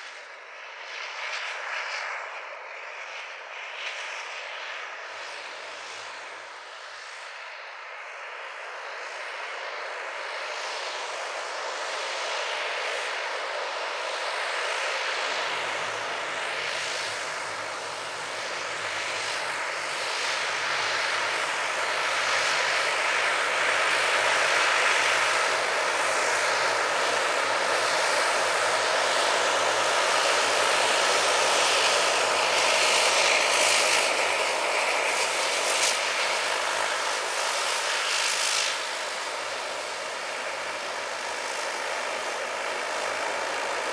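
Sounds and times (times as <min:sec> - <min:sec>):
turboprop engines running: 0:00.0 - 0:43.9.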